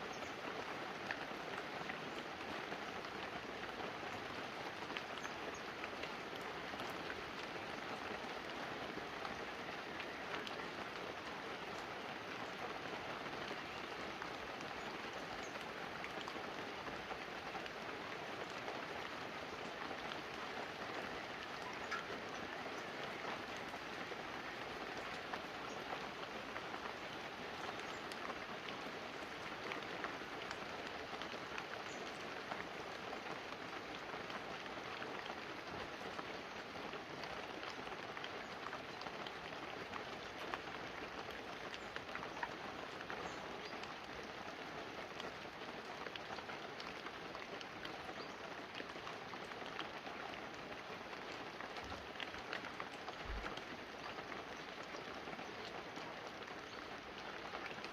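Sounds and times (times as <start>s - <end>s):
rain on leaves and roof: 0.0s - 57.9s.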